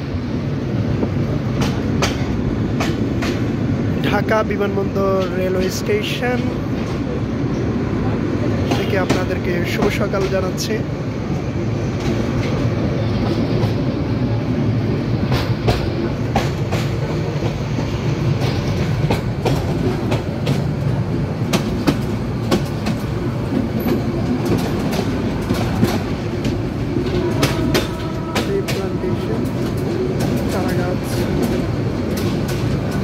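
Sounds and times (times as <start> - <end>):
train low rumble: 0.0 - 33.0.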